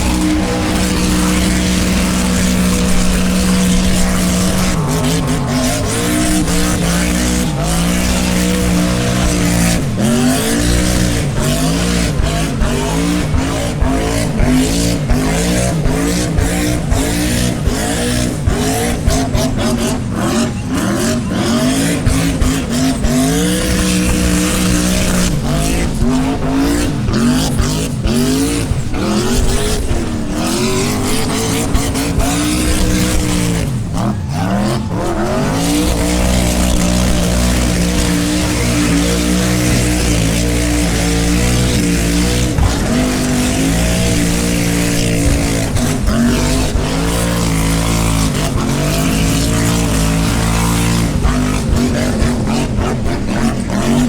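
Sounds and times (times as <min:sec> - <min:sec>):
engine revving: 0:00.0 - 0:54.0
tires squealing: 0:00.0 - 0:54.0.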